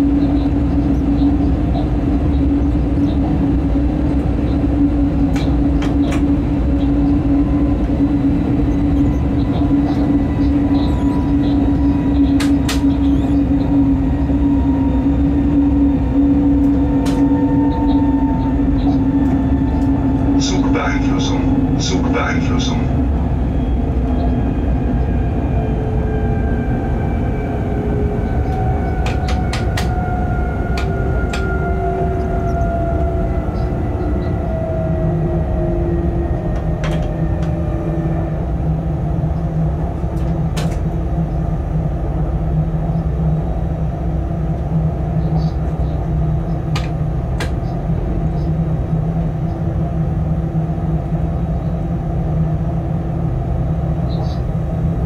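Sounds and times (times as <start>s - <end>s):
locomotive drive whine: 0.0s - 55.0s
rumble from rails: 0.0s - 55.0s.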